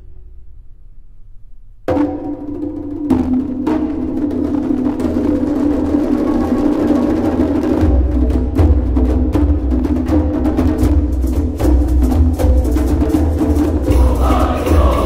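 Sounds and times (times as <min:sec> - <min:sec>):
background music with drums: 0:01.8 - 0:15.0.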